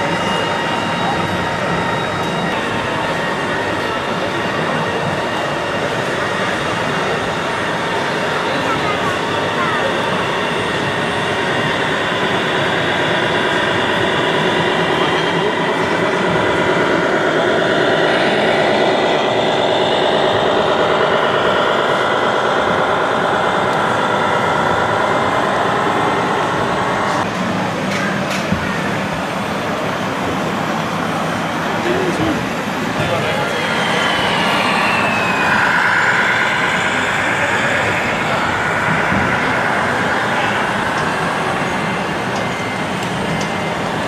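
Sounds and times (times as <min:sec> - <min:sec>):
hum of busy hall: 0:00.0 - 0:44.0.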